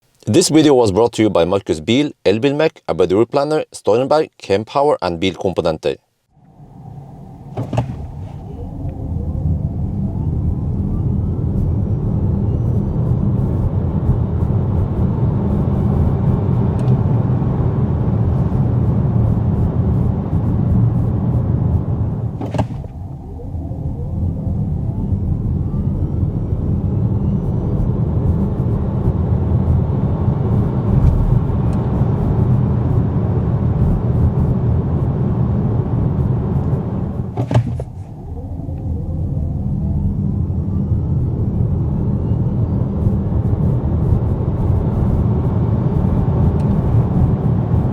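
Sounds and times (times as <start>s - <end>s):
road and tyre noise in car cabin: 6.1s - 47.9s.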